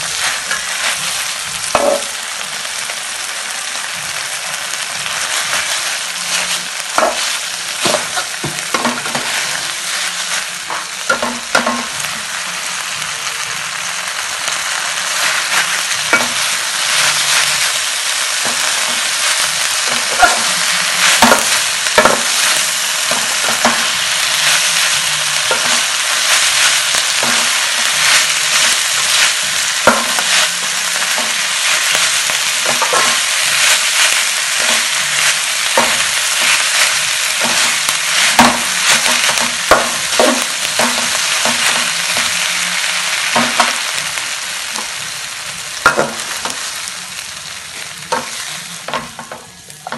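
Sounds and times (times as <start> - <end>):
meat sizzling in a wok: 0.0 - 49.9.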